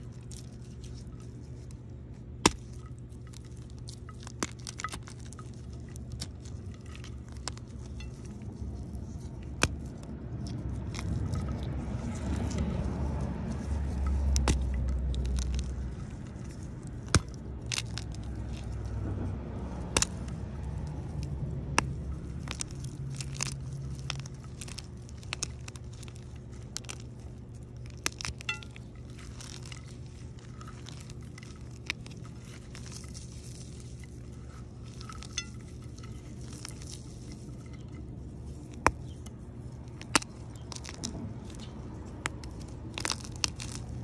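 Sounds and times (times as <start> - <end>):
chalk chunks snapping: 0.0 - 44.0
chalk crunching by hand: 0.0 - 44.0
low rumble: 0.0 - 44.0.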